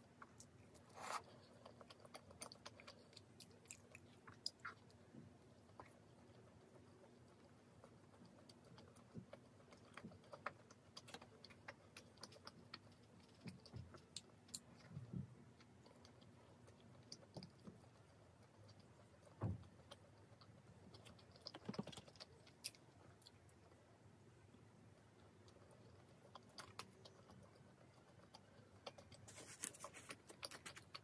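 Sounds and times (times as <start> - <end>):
chewing crunchy crust: 0.0 - 23.9, 24.5 - 31.0.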